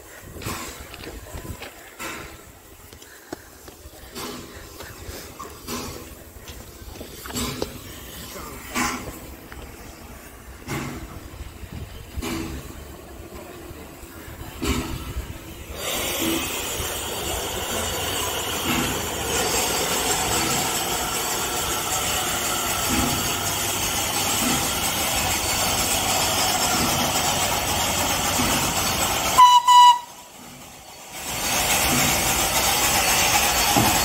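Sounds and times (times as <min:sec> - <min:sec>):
steam locomotive hissing: 0:00.0 - 0:34.0.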